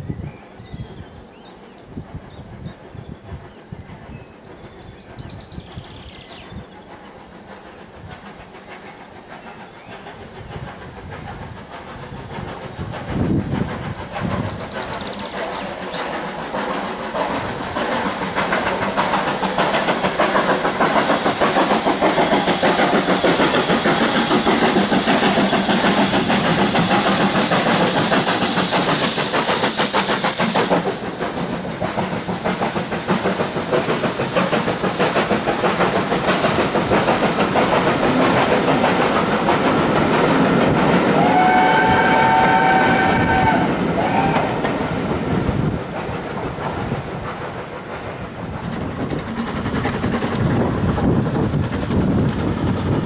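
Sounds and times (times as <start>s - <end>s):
loud high hiss of steam: 0.0s - 53.0s
steam locomotive exhaust beats: 0.0s - 53.0s.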